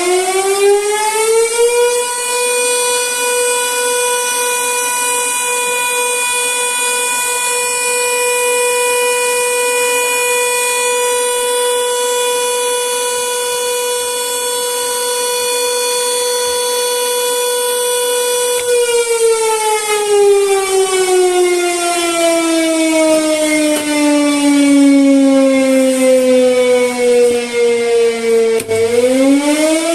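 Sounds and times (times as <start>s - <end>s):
electric siren wailing: 0.0s - 29.9s.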